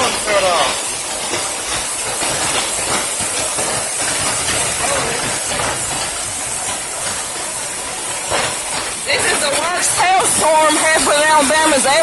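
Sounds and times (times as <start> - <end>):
hailstones clattering: 0.0 - 12.0
heavy rain and hail: 0.0 - 12.0.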